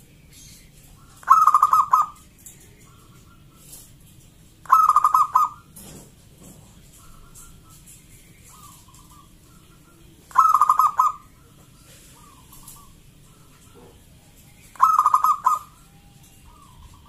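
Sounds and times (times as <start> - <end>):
dove cooing: 0.8 - 17.0.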